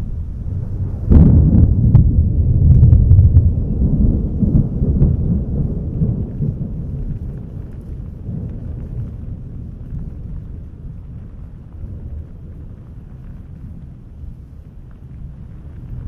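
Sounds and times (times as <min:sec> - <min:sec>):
deep rolling thunder: 0:00.0 - 0:16.0.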